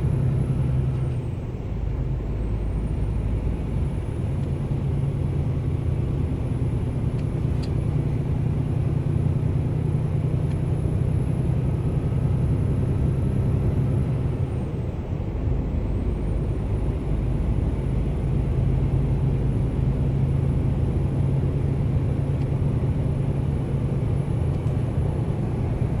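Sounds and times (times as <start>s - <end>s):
engine low drone: 0.0s - 26.0s.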